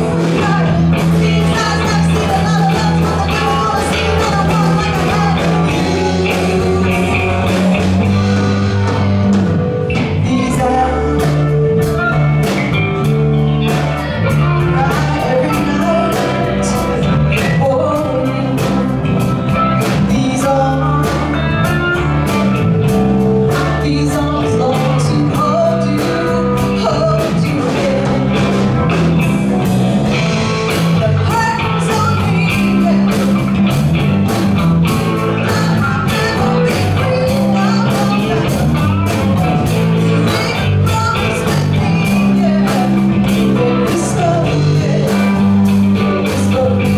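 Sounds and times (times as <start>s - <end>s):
person singing: 0.0s - 22.7s, 23.4s - 33.8s, 34.9s - 46.9s
drum kit: 0.0s - 46.9s
electric guitar: 0.0s - 46.9s.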